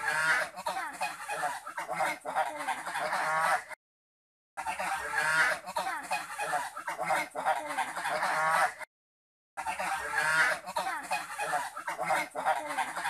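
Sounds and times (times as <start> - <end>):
geese honking: 0.0 - 3.8, 4.6 - 8.9, 9.6 - 13.0.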